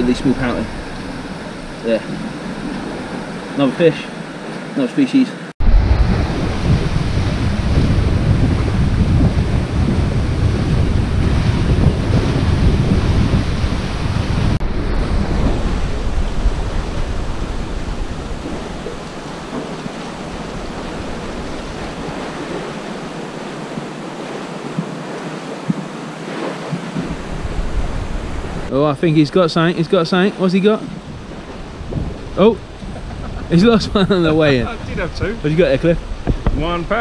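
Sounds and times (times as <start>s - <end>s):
wind buffeting microphone: 0.0s - 4.7s, 5.6s - 37.0s
sea washing around pier: 0.0s - 37.0s.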